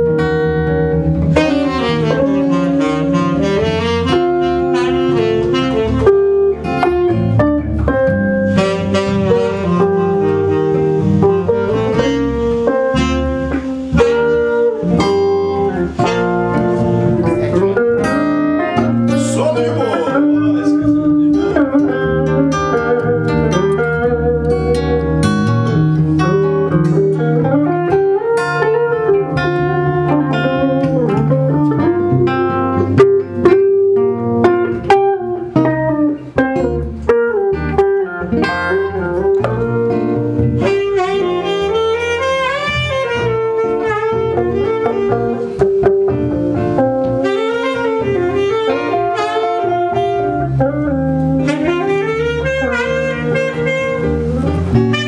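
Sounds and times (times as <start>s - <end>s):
electric guitar and bass: 0.0s - 55.0s
saxophone melody: 0.0s - 55.0s
sharp plucked guitar notes: 0.0s - 55.0s.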